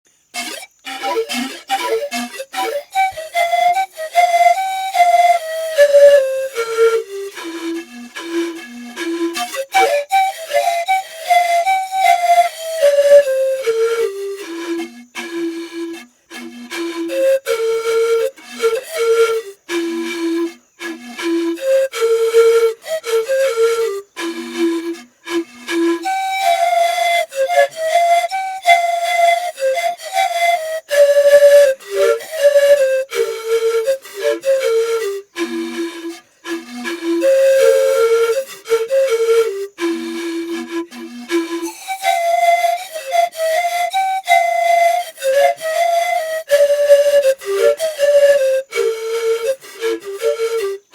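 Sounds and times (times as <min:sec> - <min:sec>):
flute-like wind instrument melody: 0:00.1 - 0:50.9.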